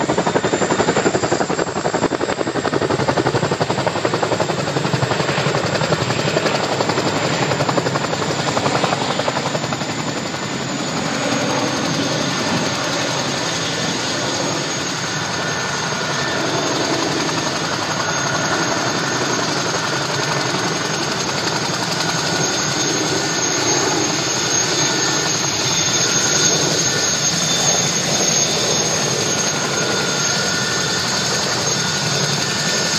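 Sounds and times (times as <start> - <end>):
helicopter rotor beat: 0.0 - 32.9
turbine whine: 0.0 - 32.9.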